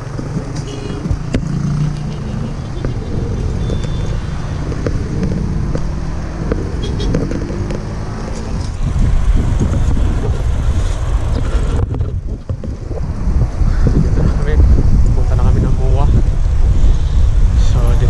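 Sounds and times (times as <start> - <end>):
road traffic noise: 0.0 - 18.0
wind rumbling on microphone: 0.0 - 18.0.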